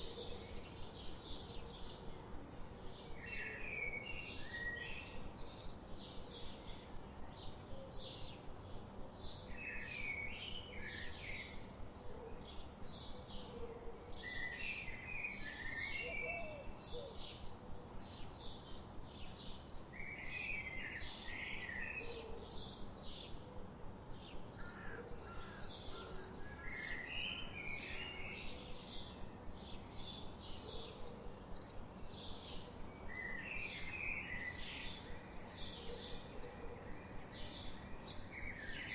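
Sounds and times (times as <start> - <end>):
songbirds chirping: 0.0 - 38.9
steady background hiss: 0.0 - 38.9.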